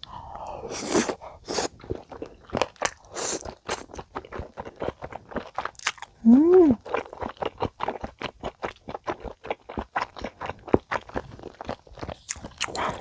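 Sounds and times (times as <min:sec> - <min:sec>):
chewing food with mouth clicks: 0:00.0 - 0:13.0.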